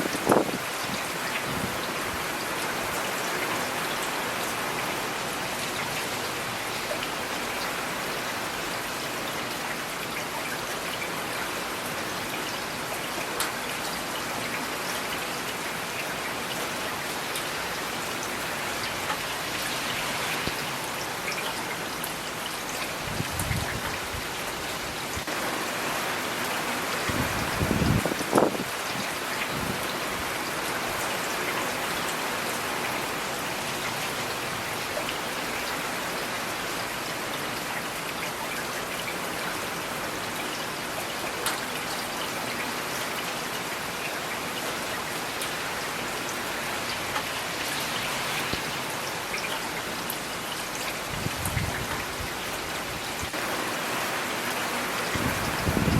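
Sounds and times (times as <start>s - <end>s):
rain on hard surfaces: 0.0s - 55.9s.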